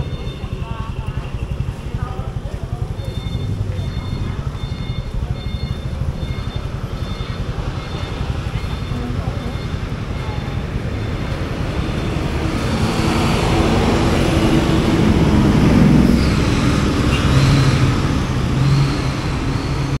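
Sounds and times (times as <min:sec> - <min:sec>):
motorbike and bus engines rumbling: 0:00.0 - 0:20.0.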